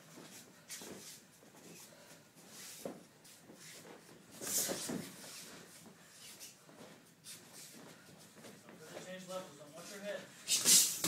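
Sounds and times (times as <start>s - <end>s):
feet shuffling on ring mat: 0.0s - 11.0s.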